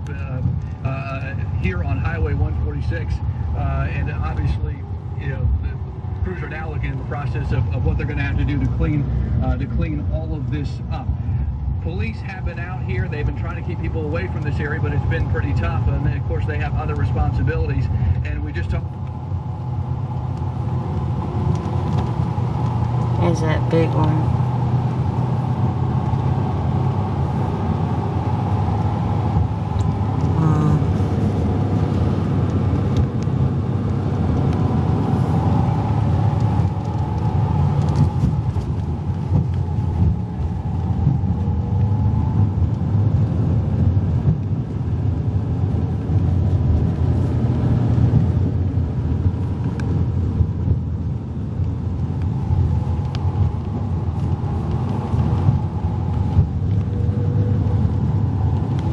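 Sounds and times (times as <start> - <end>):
low rumble of moving vehicle: 0.0 - 58.9.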